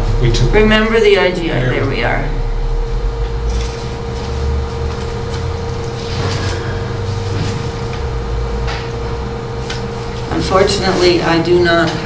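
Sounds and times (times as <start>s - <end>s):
low steady rumble: 0.0s - 11.1s
constant hum: 0.0s - 12.0s.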